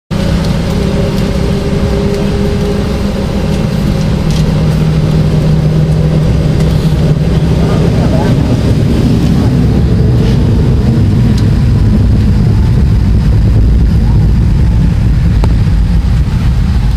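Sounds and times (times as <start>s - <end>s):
jet engines droning in cabin: 0.1s - 16.9s.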